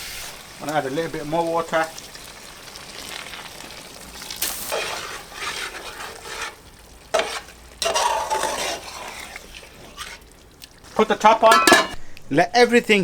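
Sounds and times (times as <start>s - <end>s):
meat sizzling in a pan: 0.0s - 12.1s.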